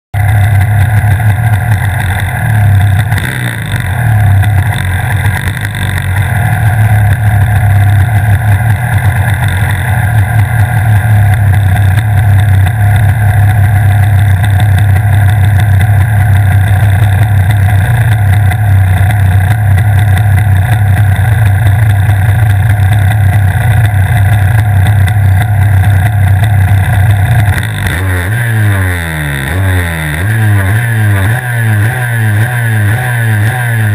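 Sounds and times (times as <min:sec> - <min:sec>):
engine revving: 0:00.2 - 0:33.9
two-stroke kart engine idling: 0:00.2 - 0:33.9.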